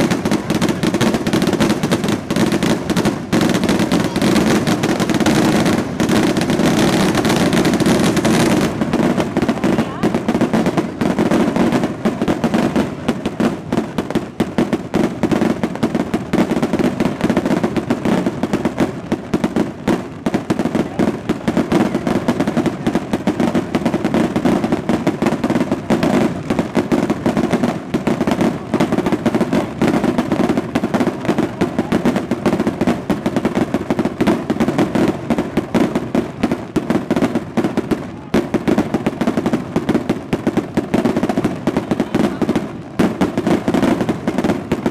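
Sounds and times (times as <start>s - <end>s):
rapid firework bangs: 0.0s - 44.9s.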